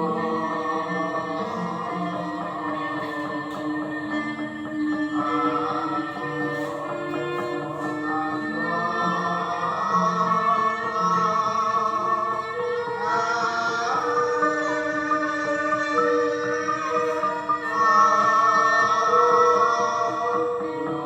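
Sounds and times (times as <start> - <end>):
person singing: 0.0 - 21.0.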